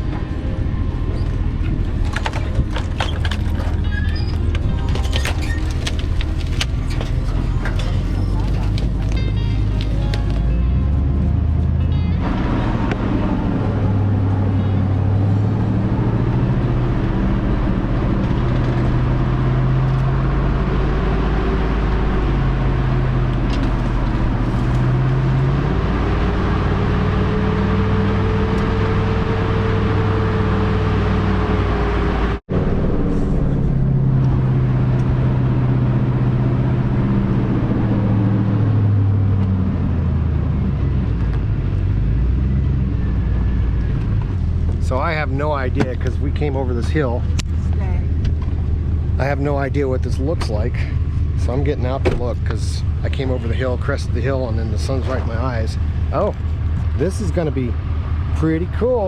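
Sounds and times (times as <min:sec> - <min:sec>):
pickup engine running under load: 0:00.0 - 0:59.0
tyre and road noise: 0:00.0 - 0:59.0.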